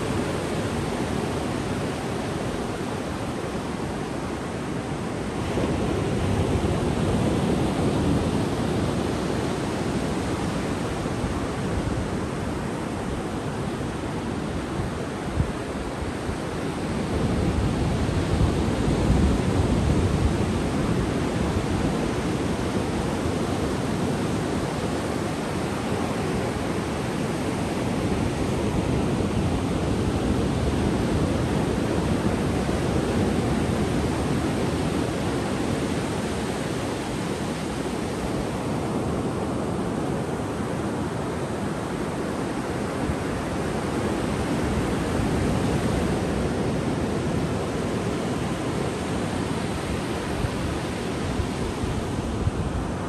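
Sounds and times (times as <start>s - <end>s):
ocean waves breaking on beach: 0.0s - 53.0s.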